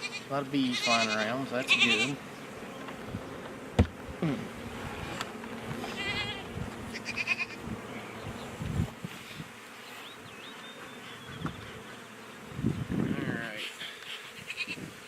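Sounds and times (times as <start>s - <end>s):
high-pitched bee calls: 0.0s - 15.0s
honeybees buzzing: 0.0s - 15.0s.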